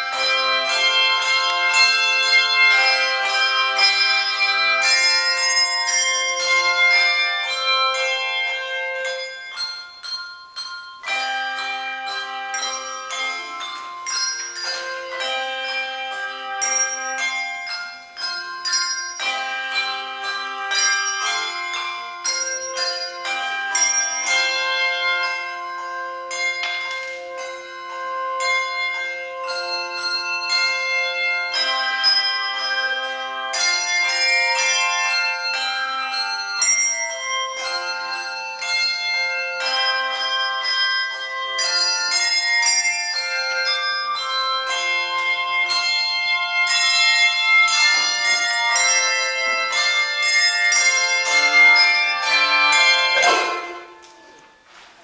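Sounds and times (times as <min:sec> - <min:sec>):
handbell choir playing: 0:00.0 - 0:55.0.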